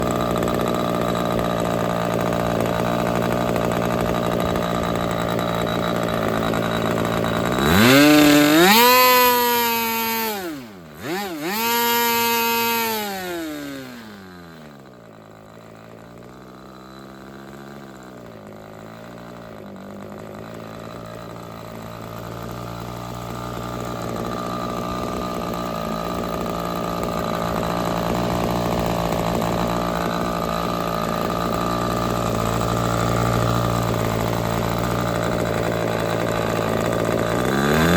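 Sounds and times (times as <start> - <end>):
model engine revving: 0.0 - 37.9.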